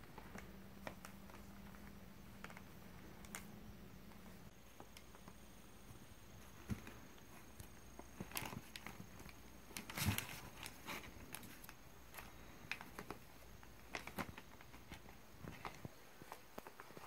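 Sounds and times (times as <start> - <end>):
kittens scratching on paper: 0.1 - 17.0.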